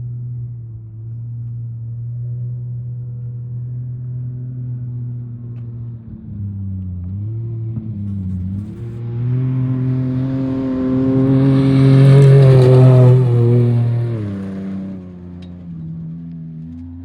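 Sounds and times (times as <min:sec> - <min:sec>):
race vehicle engine running: 0:00.0 - 0:17.0.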